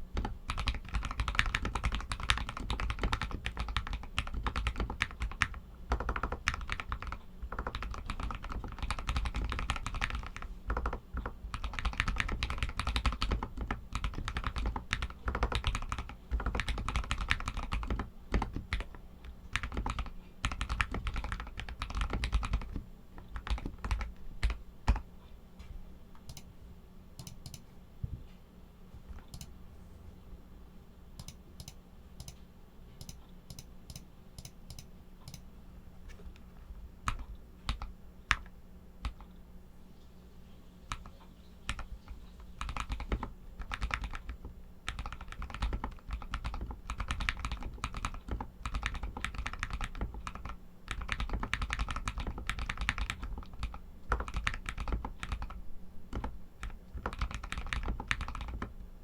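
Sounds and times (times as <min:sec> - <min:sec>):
mechanical keyboard typing: 0:00.2 - 0:25.1, 0:27.2 - 0:27.6, 0:33.0 - 0:35.4, 0:37.1 - 0:39.3, 0:40.9 - 0:58.7.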